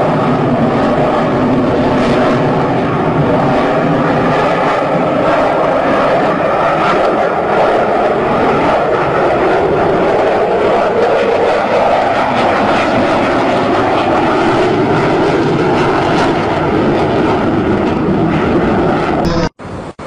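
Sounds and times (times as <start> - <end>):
jet engine noise: 0.0 - 20.0.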